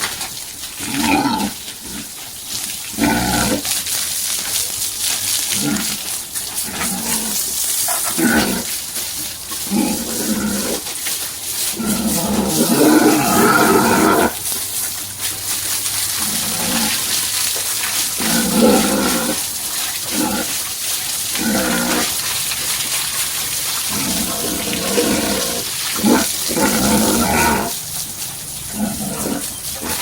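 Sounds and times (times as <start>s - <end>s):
running water hiss: 0.0s - 30.0s
pigs grunting and squealing: 0.7s - 3.8s, 5.3s - 30.0s.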